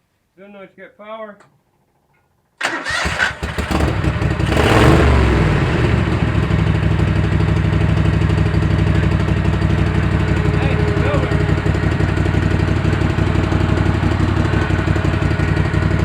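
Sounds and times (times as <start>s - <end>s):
engine starting and running: 2.6s - 16.0s.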